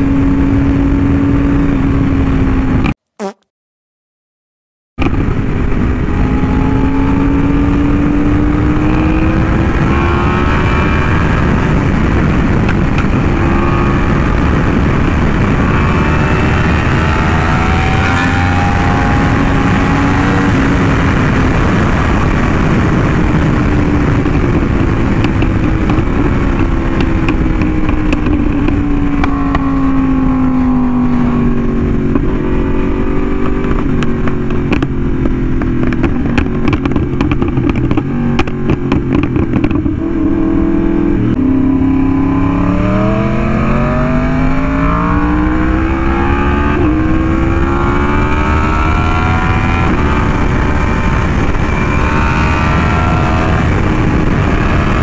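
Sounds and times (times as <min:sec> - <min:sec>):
motorcycle engine at road speed: 0:00.0 - 0:03.0, 0:05.0 - 0:55.0
wind and road noise: 0:00.0 - 0:03.3, 0:05.0 - 0:55.0.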